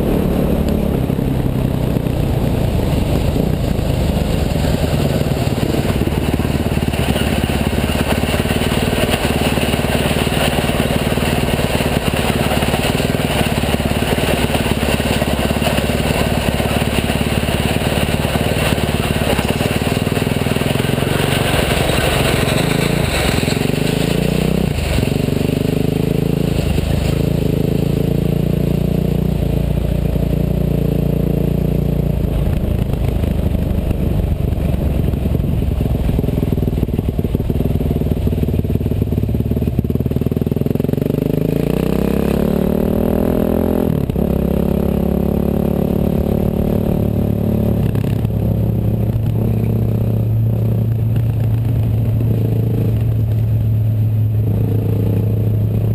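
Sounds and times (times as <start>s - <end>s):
bulldozer engine running: 0.0s - 55.9s.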